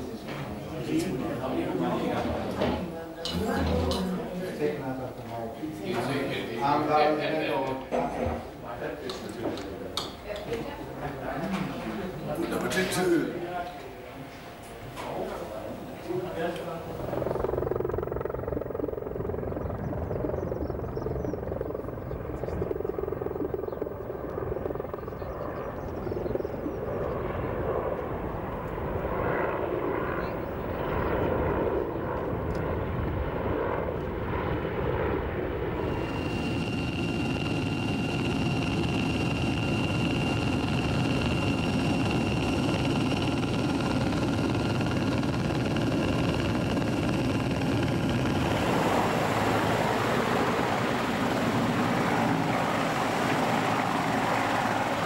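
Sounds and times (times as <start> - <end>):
helicopter rotors running: 0.0 - 55.0
high turbine whine: 0.0 - 55.0.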